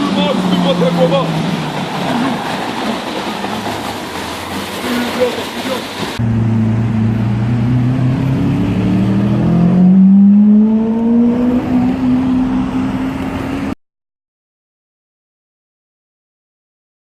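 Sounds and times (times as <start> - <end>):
car engine accelerating: 0.0 - 13.8.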